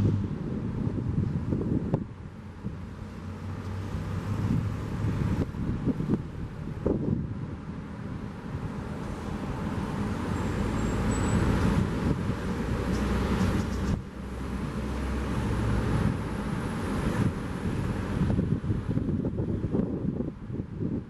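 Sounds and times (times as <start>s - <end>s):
cars passing: 0.0s - 21.0s
wind: 0.0s - 21.0s.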